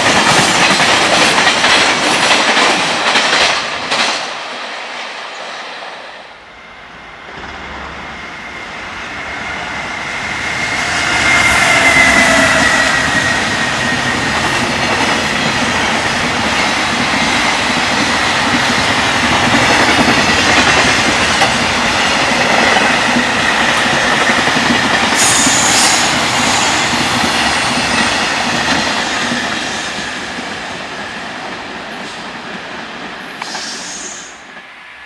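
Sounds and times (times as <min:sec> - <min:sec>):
freight train wheels clattering: 0:00.0 - 0:05.3, 0:07.2 - 0:34.6
high whine of train: 0:00.0 - 0:35.0.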